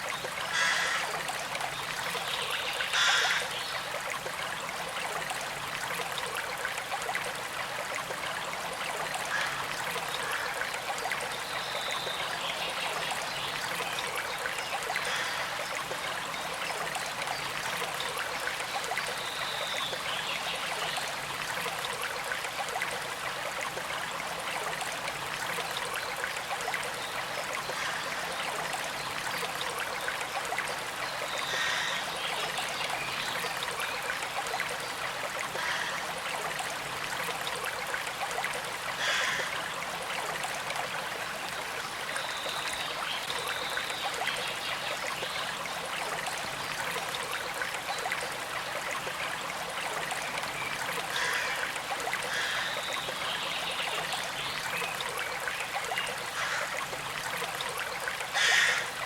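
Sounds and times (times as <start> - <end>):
stream flowing and trickling: 0.0 - 59.0.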